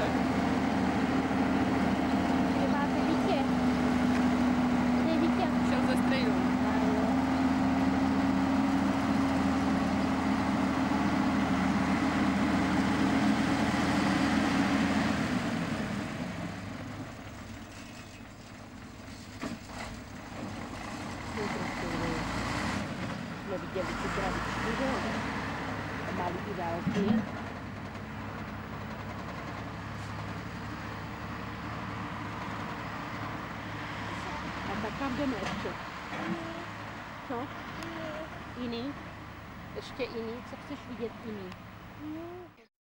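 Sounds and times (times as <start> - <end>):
tractor diesel engine running: 0.0 - 42.6.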